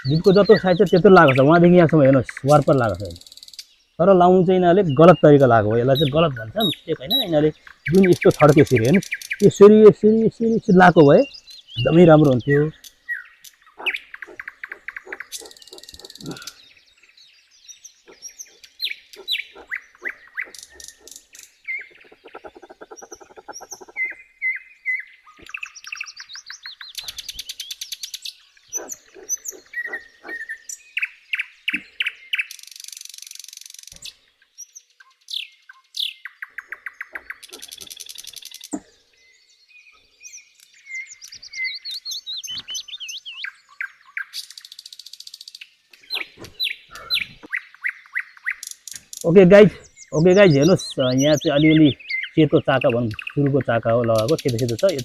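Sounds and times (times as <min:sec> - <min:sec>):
birds singing and calling: 0:00.0 - 0:55.0.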